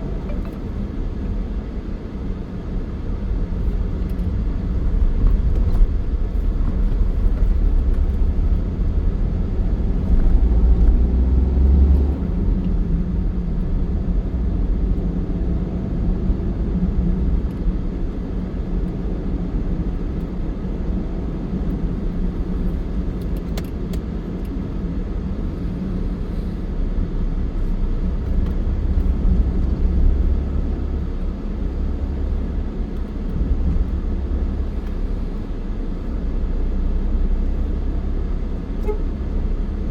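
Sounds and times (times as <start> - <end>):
low vehicle rumble: 0.0 - 39.9
road noise: 0.0 - 39.9.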